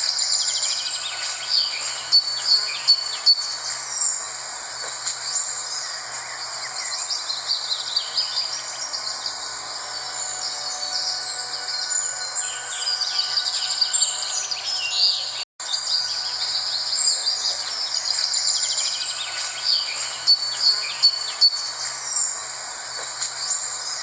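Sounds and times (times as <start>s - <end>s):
birds chirping and trilling: 0.0s - 24.0s
insect drone: 0.0s - 24.0s.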